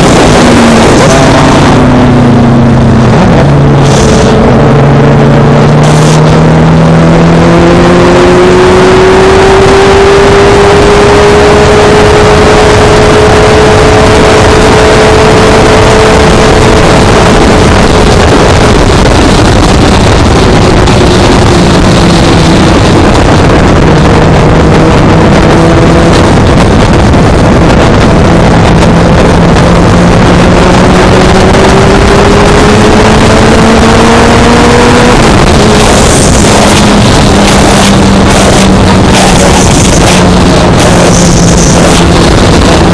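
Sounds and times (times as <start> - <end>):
motorcycle engine running: 0.0 - 42.9
wind rush on microphone: 0.0 - 42.9.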